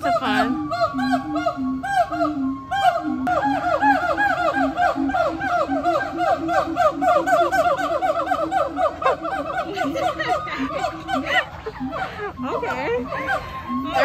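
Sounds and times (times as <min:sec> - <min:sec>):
gibbon hooting calls: 0:00.0 - 0:14.0.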